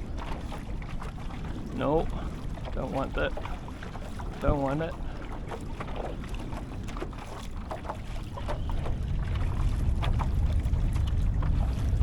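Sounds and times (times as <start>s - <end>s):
low rumble: 0.0s - 12.0s
water splashing against kayak hull: 0.0s - 12.0s.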